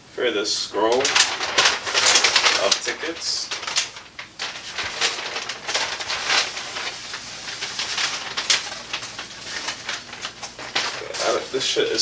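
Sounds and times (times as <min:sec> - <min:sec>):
paper rustling and crackling: 0:00.7 - 0:12.0.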